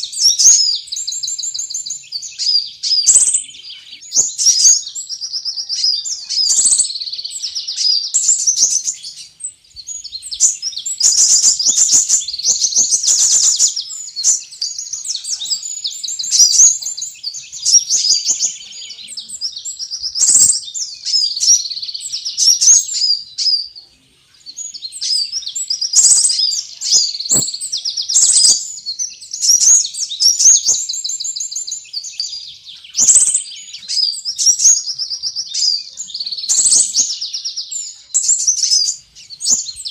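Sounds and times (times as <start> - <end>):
high-pitched bird chirps and trills: 0.0 - 39.9.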